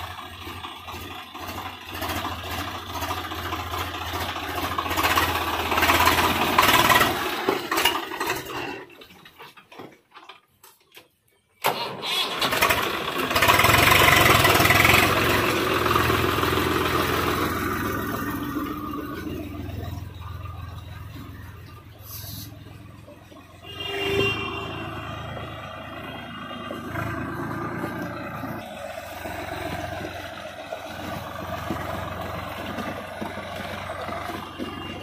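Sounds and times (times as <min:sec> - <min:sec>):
tractor diesel engine droning: 0:00.0 - 0:10.6, 0:11.6 - 0:35.0.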